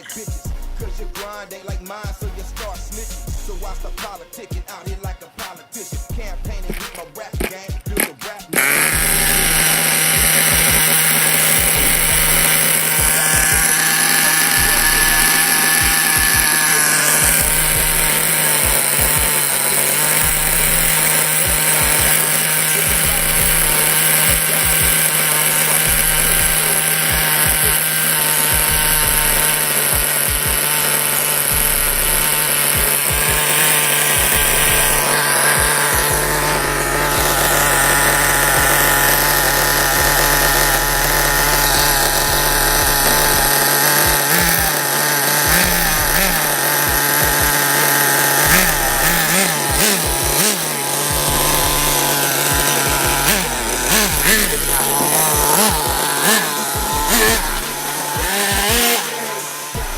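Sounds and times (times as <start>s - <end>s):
small nitro engine running: 6.1s - 59.9s.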